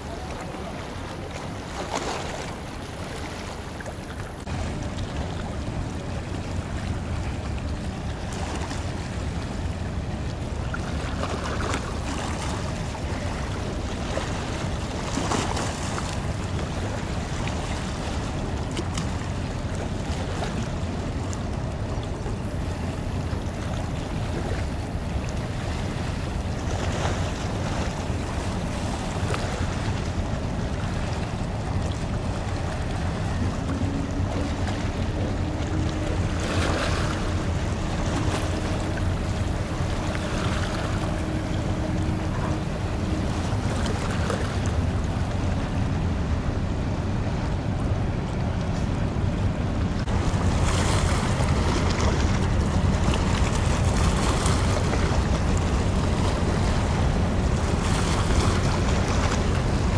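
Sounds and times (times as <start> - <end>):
ferry engines rumbling: 0.0 - 59.9
wind buffeting microphone: 2.5 - 59.9.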